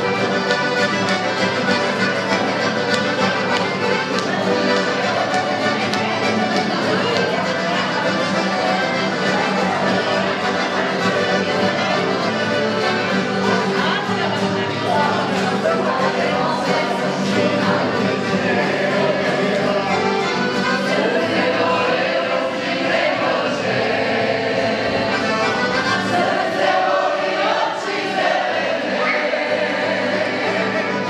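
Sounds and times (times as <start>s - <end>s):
accordion: 0.0s - 31.0s
acoustic guitars: 0.0s - 31.0s
group of people singing: 0.0s - 31.0s.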